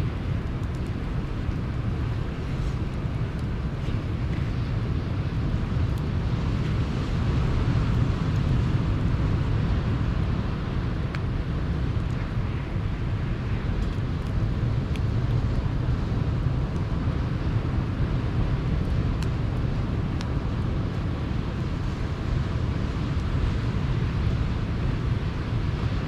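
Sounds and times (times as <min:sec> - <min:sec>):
campfire crackles: 0:00.0 - 0:26.0.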